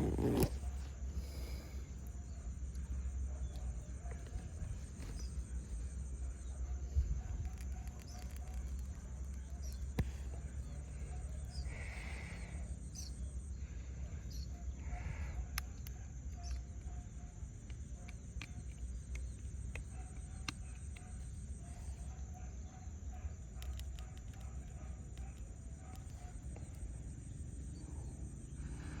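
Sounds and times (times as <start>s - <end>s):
animal calls and chirps: 0.0s - 29.0s.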